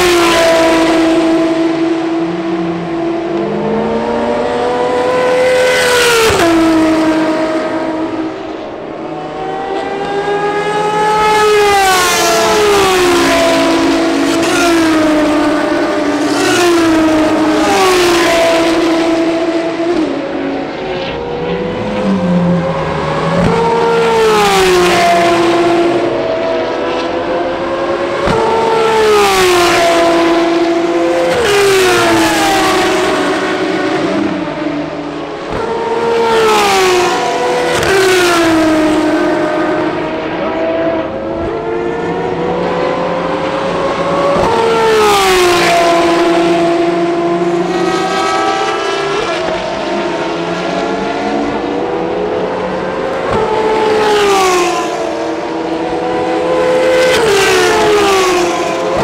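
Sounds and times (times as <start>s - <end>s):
race cars passing at speed: 0.0s - 59.0s.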